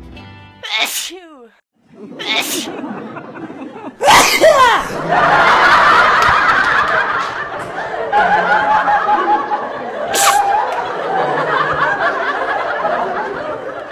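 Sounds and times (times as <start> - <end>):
people giggling: 1.9 - 13.9.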